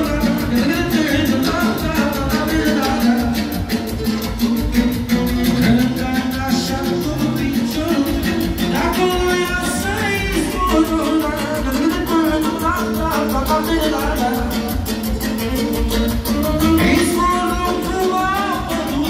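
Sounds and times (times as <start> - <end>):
man singing into a microphone: 0.0 - 4.1, 5.4 - 19.0
live band playing dance music: 0.0 - 19.0.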